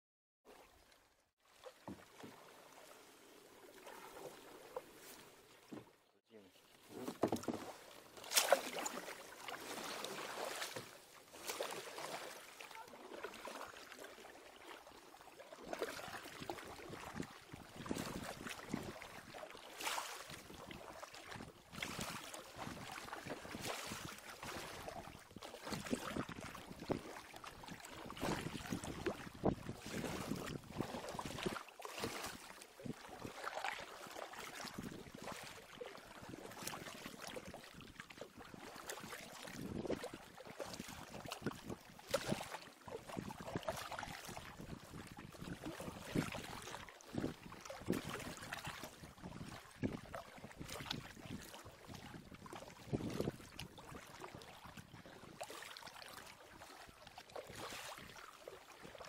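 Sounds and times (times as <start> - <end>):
kayak paddle splashing water: 0.4 - 59.0.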